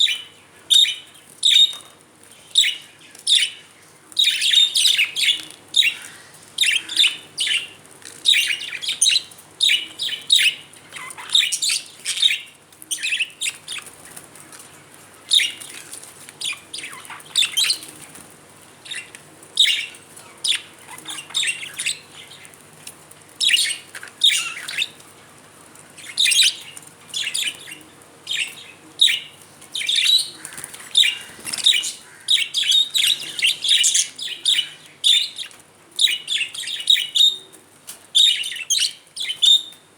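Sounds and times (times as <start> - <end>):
budgerigars chirping: 0.0 - 1.9, 4.2 - 14.2, 15.3 - 15.8, 16.4 - 18.0, 18.9 - 22.6, 23.4 - 25.0, 26.0 - 37.4, 38.2 - 39.8.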